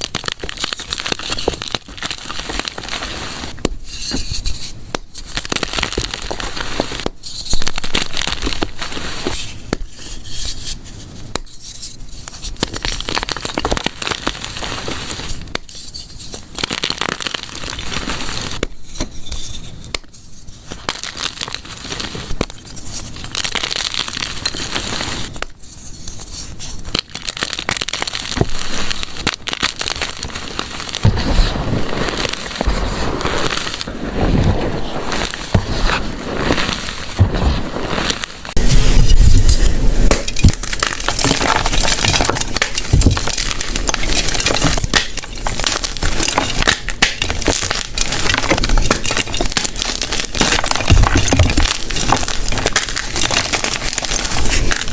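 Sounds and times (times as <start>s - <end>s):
chalk crushed and crumbled: 0.0s - 10.3s, 12.3s - 19.4s, 20.5s - 54.9s.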